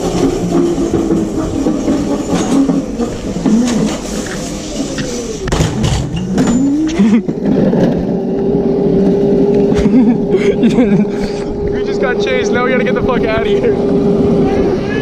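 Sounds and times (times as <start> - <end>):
electric kart motor whining: 0.0 - 15.0
wheels rumbling on concrete: 0.0 - 15.0.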